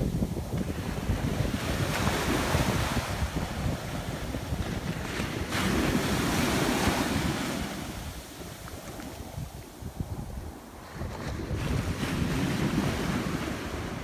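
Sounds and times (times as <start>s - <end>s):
waves breaking on sand: 0.0s - 14.0s
wind on microphone: 0.0s - 14.0s.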